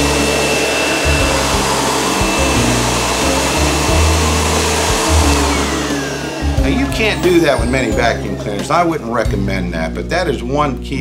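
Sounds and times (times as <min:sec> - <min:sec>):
vacuum cleaner on carpet: 0:00.0 - 0:09.3.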